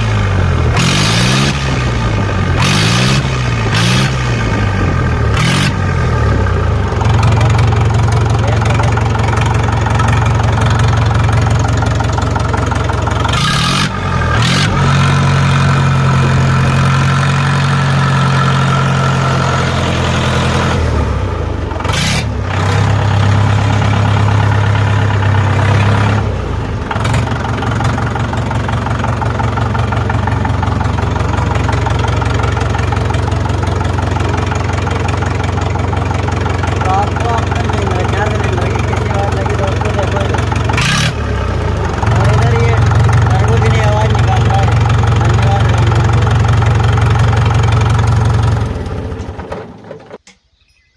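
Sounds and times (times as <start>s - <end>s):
tractor diesel engine running: 0.0s - 50.2s.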